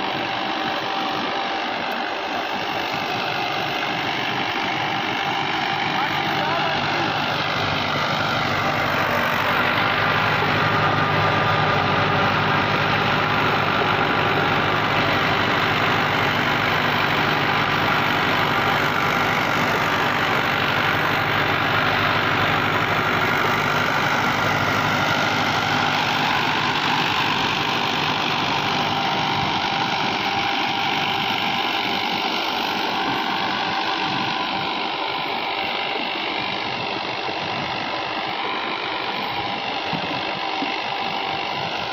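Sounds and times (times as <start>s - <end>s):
rotavator tilling soil: 0.0s - 41.9s
tractor diesel engine under load: 0.0s - 41.9s.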